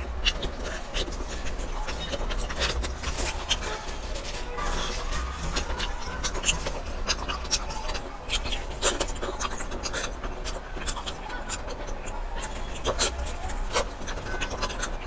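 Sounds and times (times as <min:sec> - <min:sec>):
wet chewing and lip smacks: 0:00.0 - 0:15.0.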